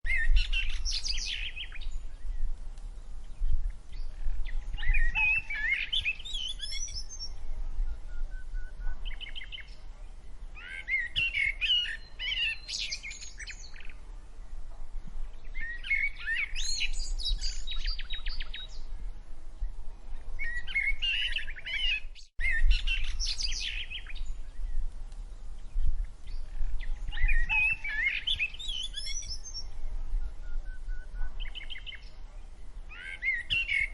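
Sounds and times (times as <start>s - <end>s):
songbird chirping: 0.0s - 33.9s.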